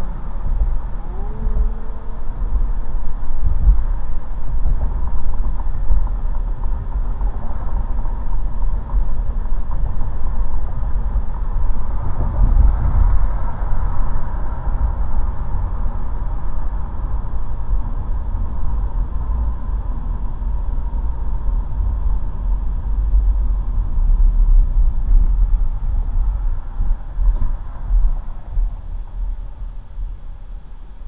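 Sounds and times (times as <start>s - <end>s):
car cabin road rumble: 0.0s - 31.0s.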